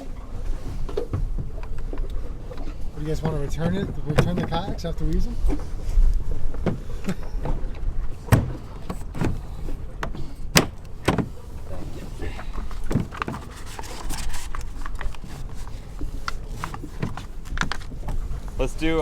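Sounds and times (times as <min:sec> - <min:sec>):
hollow knocks of plastic kayaks: 0:00.6 - 0:11.9, 0:12.7 - 0:18.6.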